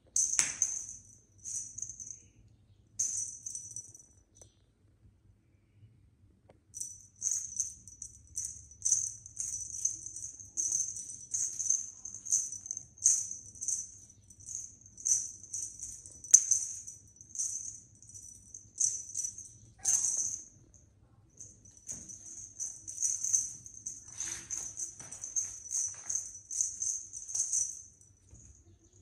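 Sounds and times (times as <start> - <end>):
small bell jingling: 0.0 - 2.4, 3.0 - 4.2, 6.8 - 29.0.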